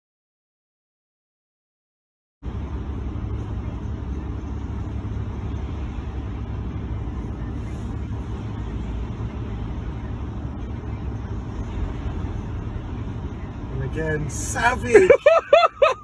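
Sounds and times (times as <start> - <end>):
low rumble of road traffic: 2.4 - 16.0.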